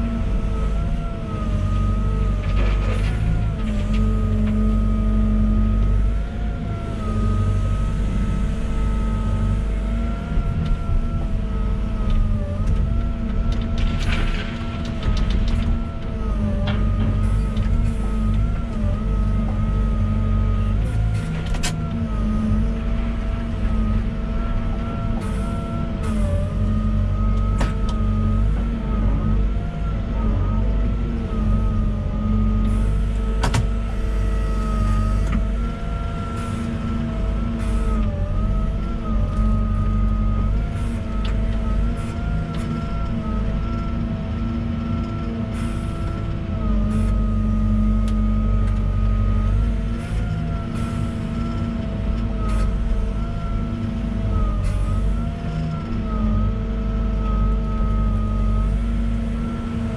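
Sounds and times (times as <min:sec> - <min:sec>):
diesel engine under load: 0:00.0 - 0:59.9
hydraulic whine: 0:00.0 - 0:59.9.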